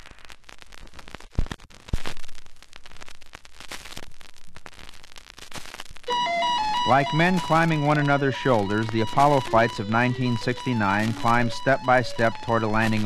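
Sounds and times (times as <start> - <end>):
crackling static: 0.0 - 13.0.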